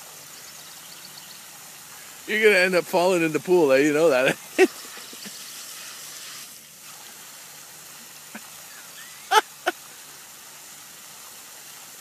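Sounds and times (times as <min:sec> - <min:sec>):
water jet spraying into pool: 0:00.0 - 0:00.6, 0:01.3 - 0:12.0.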